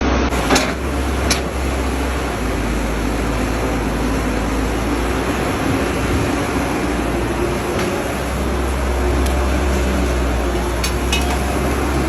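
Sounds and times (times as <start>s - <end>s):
heavy machinery diesel engines: 0.0s - 12.0s.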